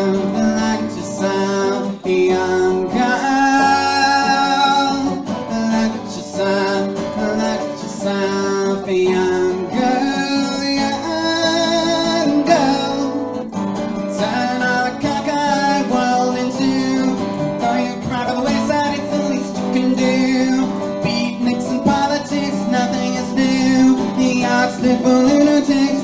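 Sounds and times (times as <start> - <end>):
acoustic guitar strumming: 0.0 - 26.0
person singing: 0.0 - 26.0.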